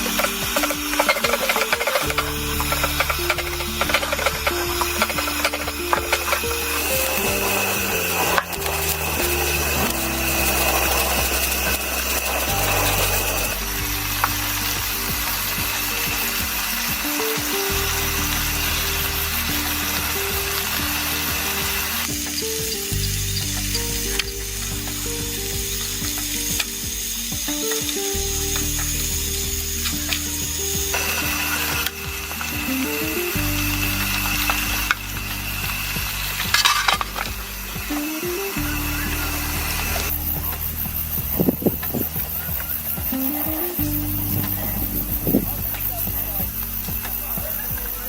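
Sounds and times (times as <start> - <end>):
food sizzling in a frying pan: 0.0 - 48.0
soft background music: 0.0 - 48.0.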